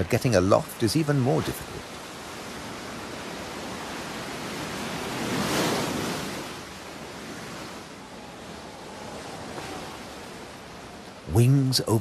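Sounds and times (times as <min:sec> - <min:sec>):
sea waves breaking on rocks: 0:00.0 - 0:12.0.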